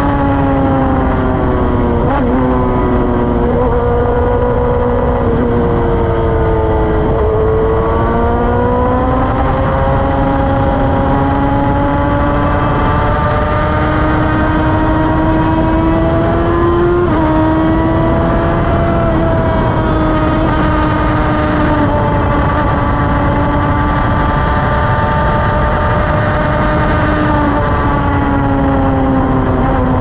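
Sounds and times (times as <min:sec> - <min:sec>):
race car engine cruising: 0:00.0 - 0:30.0
wind and road rush: 0:00.0 - 0:30.0.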